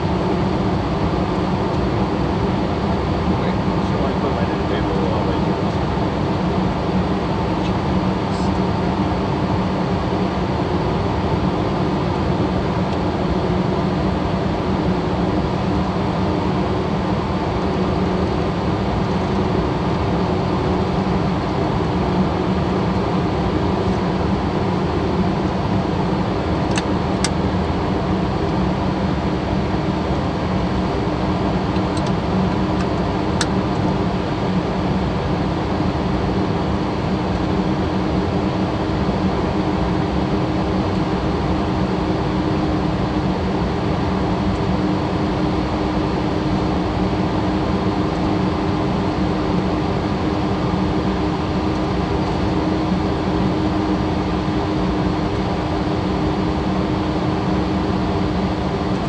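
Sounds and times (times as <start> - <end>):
jet cockpit airflow rush: 0.0 - 59.0.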